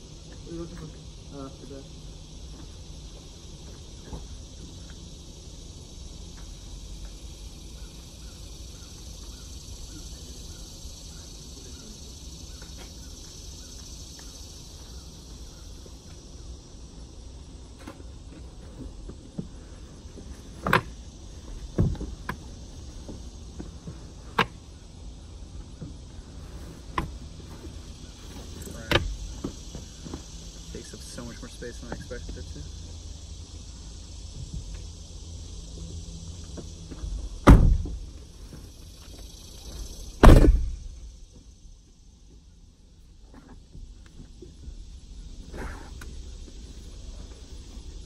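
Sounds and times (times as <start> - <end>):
insect chirring: 0.0 - 48.0.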